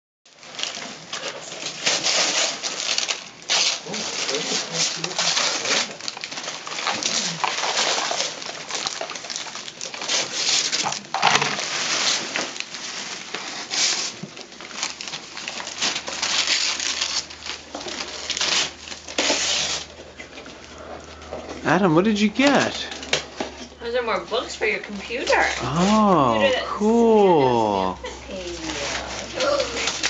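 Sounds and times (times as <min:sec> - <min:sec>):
wrapping paper rustling and tearing: 0:00.3 - 0:30.0.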